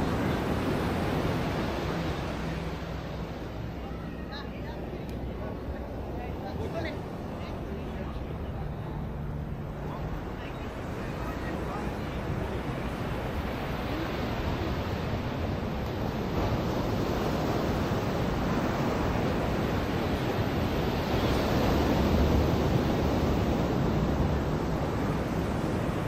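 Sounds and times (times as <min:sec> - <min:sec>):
ocean waves breaking on beach: 0:00.0 - 0:26.0.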